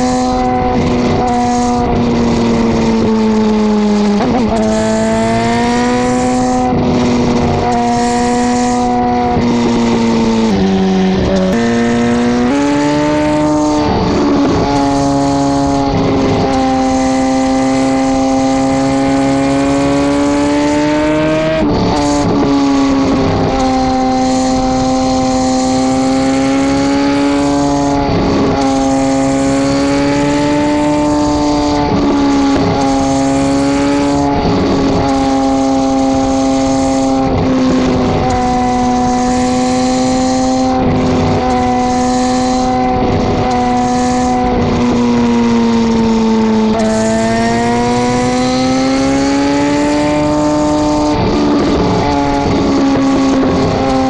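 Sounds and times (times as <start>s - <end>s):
motorcycle exhaust drone: 0.0s - 54.0s.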